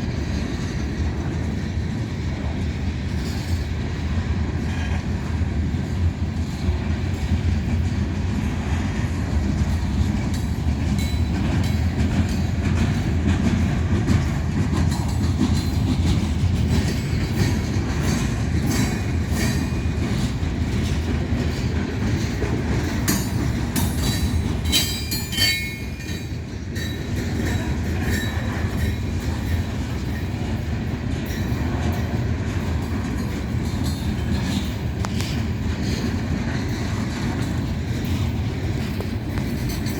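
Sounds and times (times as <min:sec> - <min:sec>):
freight train rolling on rails: 0:00.0 - 0:39.9.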